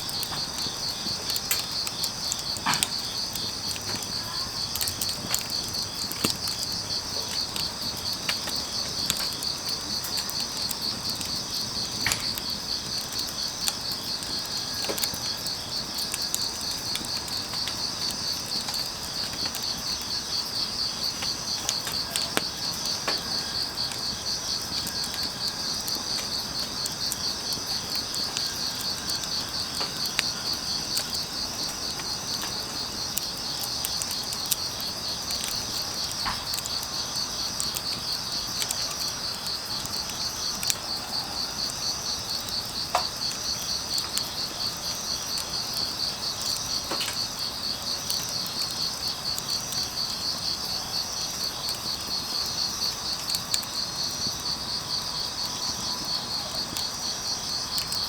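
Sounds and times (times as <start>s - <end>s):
crickets chirping: 0.0s - 58.0s
firewood crackling and popping: 0.0s - 58.0s.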